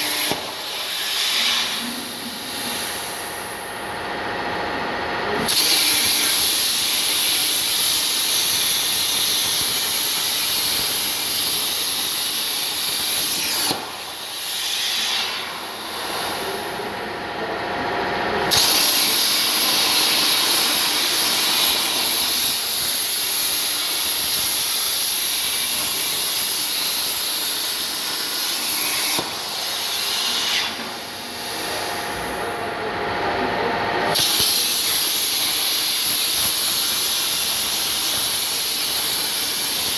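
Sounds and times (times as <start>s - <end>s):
plasma cutter arc hissing: 0.0s - 4.0s, 5.4s - 17.0s, 18.4s - 32.6s, 34.1s - 39.9s.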